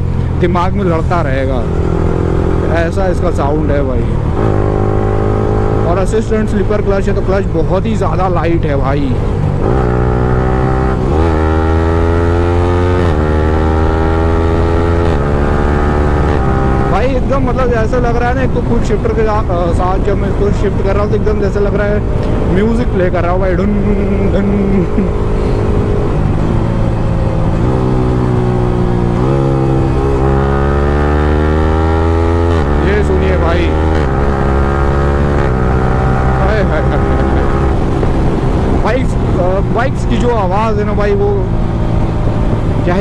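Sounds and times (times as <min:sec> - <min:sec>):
motorcycle accelerating with upshifts: 0:00.0 - 0:07.9, 0:09.1 - 0:43.0.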